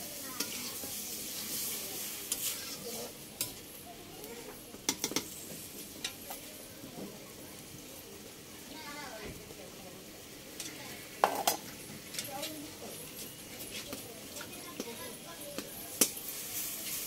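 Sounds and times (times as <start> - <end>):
spatula stirring in a pan: 0.0 - 9.5, 10.2 - 17.0
vegetables sizzling in hot oil: 0.0 - 17.0.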